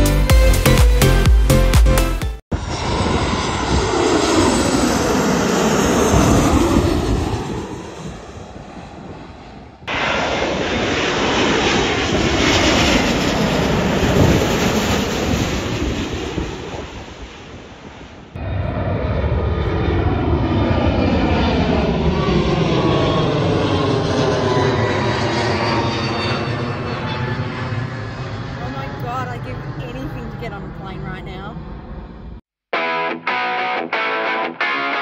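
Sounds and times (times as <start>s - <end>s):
jet airliner passing overhead: 2.5s - 32.4s.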